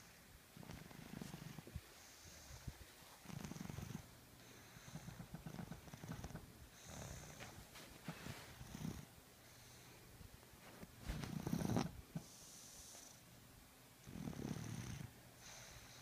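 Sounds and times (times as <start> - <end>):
soft hissy breaths: 0.0 - 16.0.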